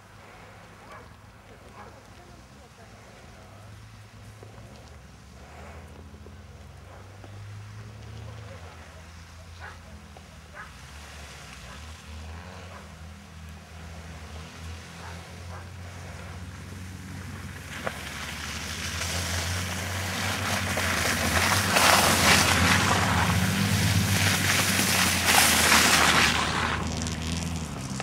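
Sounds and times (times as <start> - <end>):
tyres churning snow: 0.0 - 28.0.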